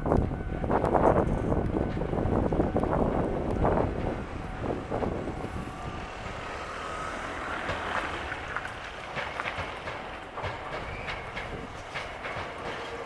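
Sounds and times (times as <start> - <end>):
rail clicks: 0.0 - 13.0
train running on track: 0.0 - 13.0.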